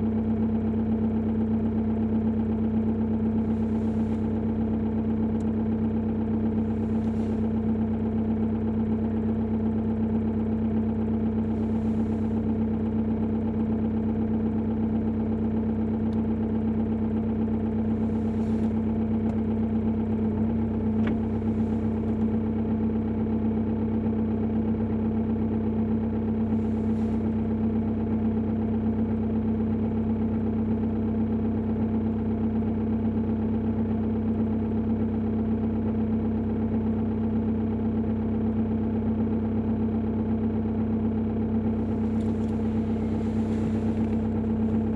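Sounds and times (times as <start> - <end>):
diesel engine idling with knock: 0.0 - 44.9.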